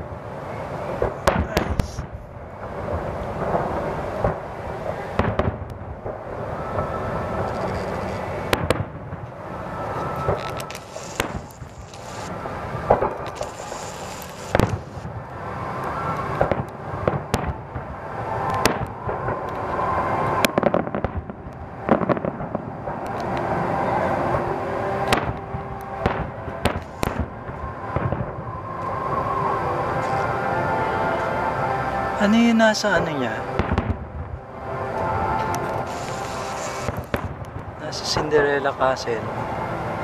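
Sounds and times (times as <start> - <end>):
fireworks bangs: 0.0 - 31.4, 32.2 - 39.1
background rumble: 0.0 - 40.0.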